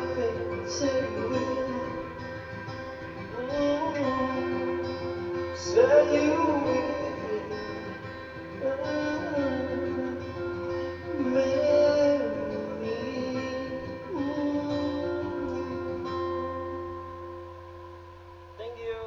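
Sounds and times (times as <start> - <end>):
acoustic guitar strumming: 0.0 - 19.0
person singing wordless notes: 0.0 - 19.0.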